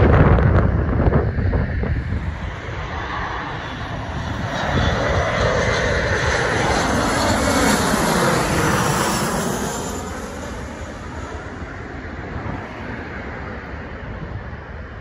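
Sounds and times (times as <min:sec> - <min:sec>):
jet passing overhead: 0:00.0 - 0:15.0.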